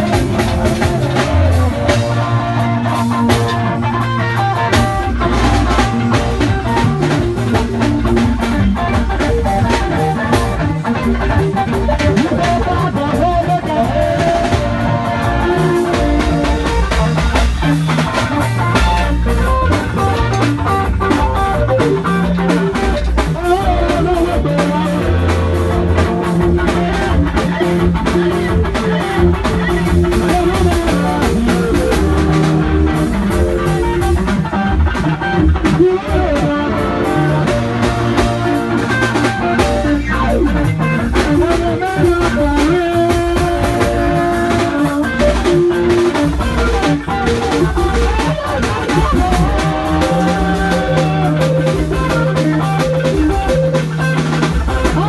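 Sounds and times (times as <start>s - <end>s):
drum kit steady beat: 0.0s - 55.0s
electric guitar playing: 0.0s - 55.0s.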